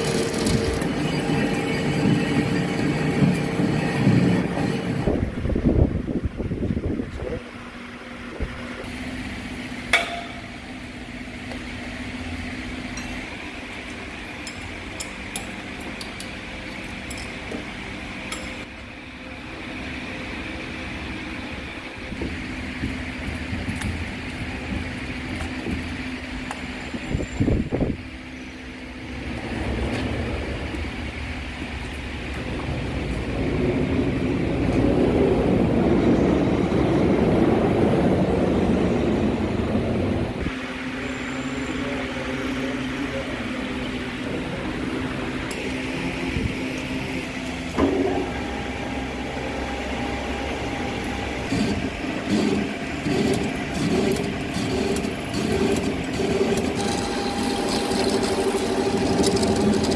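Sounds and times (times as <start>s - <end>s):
lathe machine hum and cutting: 0.0s - 5.6s, 17.3s - 59.9s.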